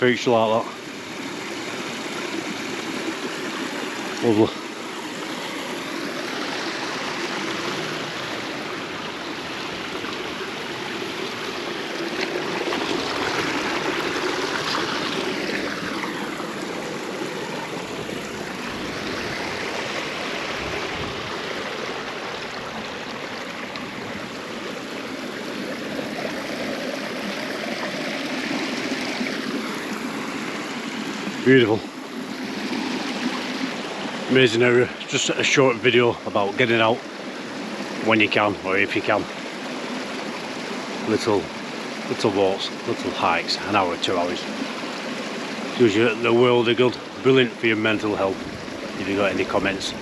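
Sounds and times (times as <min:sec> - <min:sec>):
stream running over rocks: 0:00.0 - 0:50.0.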